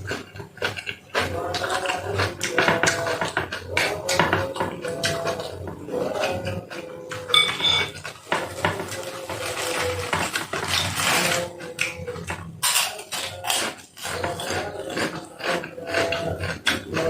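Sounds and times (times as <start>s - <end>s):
cutlery clinking against a bowl: 0.0s - 17.0s.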